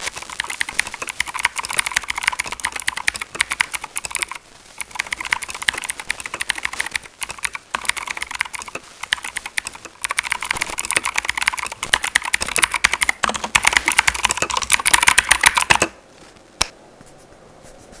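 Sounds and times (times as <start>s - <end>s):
mechanical keyboard typing: 0.0s - 16.0s.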